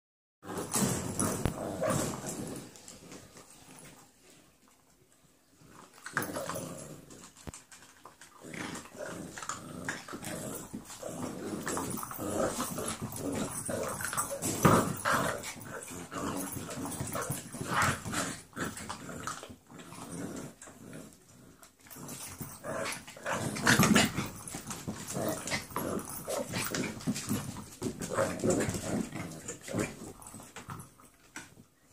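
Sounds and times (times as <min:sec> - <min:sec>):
puppies growling in play: 0:00.4 - 0:03.9, 0:05.6 - 0:31.5.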